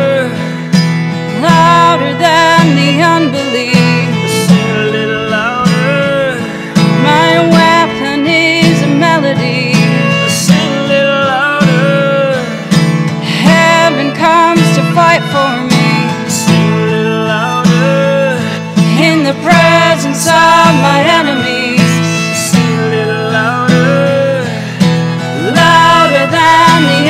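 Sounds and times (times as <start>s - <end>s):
woman singing: 0.0s - 0.4s, 1.3s - 12.5s, 13.2s - 24.4s, 25.3s - 27.0s
strummed acoustic guitar: 0.0s - 27.0s
violin: 0.0s - 27.0s.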